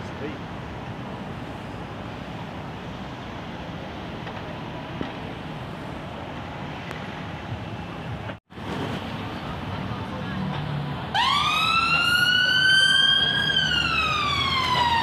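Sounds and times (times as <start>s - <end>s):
bus passing: 0.0s - 15.0s
cars passing: 0.0s - 15.0s.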